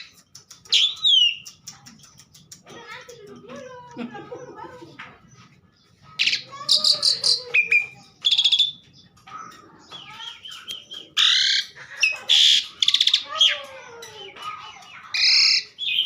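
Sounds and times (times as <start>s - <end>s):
starling singing: 0.0s - 3.6s, 5.2s - 16.0s.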